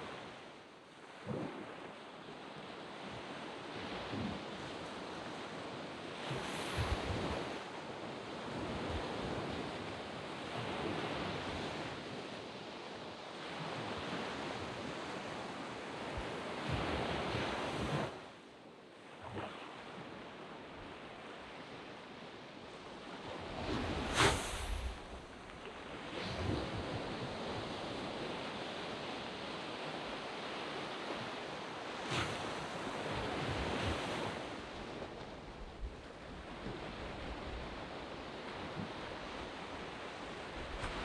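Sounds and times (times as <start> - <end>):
small waves breaking on beach: 0.0 - 18.4, 19.0 - 41.0.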